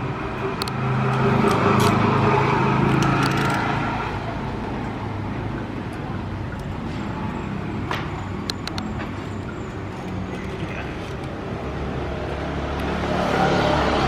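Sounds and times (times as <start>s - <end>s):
traffic hum: 0.0s - 14.0s
vehicle engine drone: 0.0s - 14.0s.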